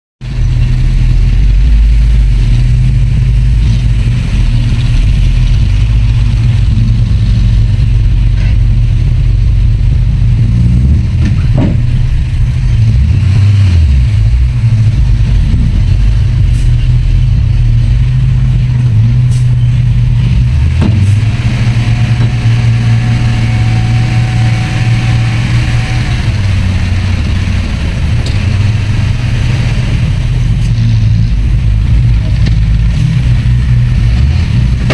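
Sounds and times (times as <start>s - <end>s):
diesel machinery engine drone: 0.2s - 34.9s.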